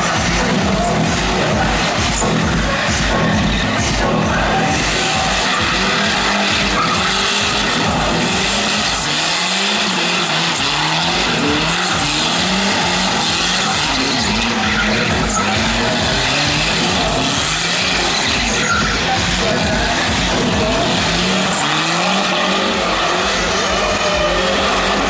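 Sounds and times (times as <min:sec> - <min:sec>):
car engine revving hard: 0:00.0 - 0:25.0
tyres squealing and skidding: 0:00.0 - 0:25.0.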